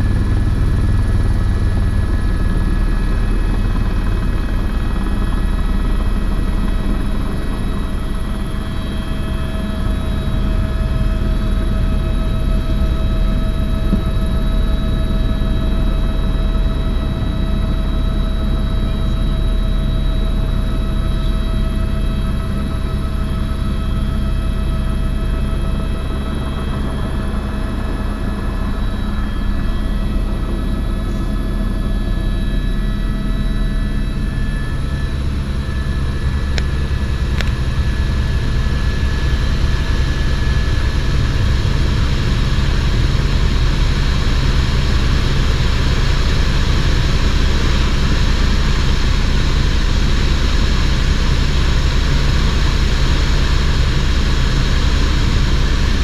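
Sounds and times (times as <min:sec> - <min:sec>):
helicopter drone in flight: 0:00.0 - 0:56.0.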